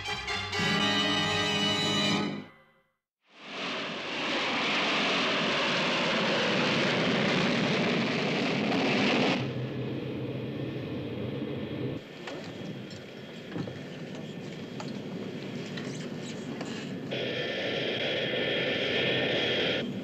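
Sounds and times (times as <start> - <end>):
jet engine rush: 3.3 - 20.0
aircraft interior hum: 3.6 - 20.0.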